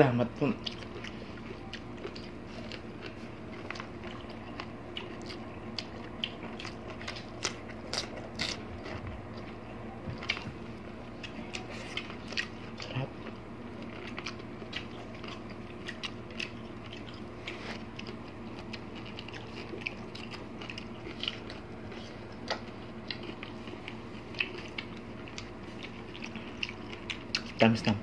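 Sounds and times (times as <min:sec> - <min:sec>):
person chewing watermelon: 0:00.0 - 0:28.0
steady low hum: 0:00.0 - 0:28.0.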